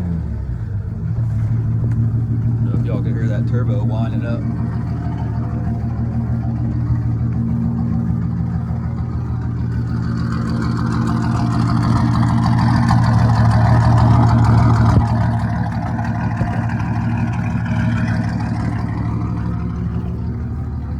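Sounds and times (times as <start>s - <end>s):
truck engine running: 0.0s - 20.9s.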